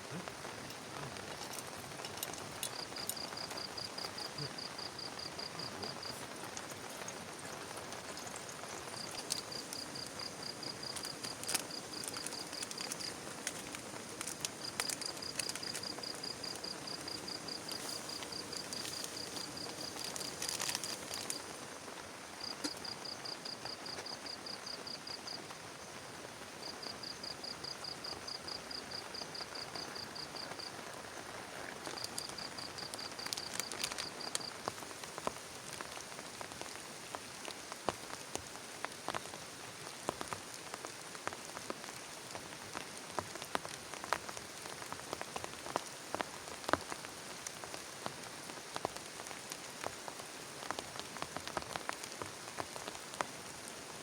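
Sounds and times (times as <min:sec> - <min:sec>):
raindrops ticking close by: 0:00.0 - 0:54.0
steady rain: 0:00.0 - 0:54.0.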